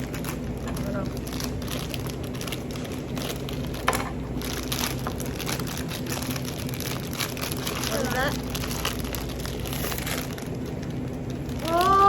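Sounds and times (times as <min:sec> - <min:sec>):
packaging crinkling: 0:00.0 - 0:12.0
steady low hum: 0:00.0 - 0:12.0.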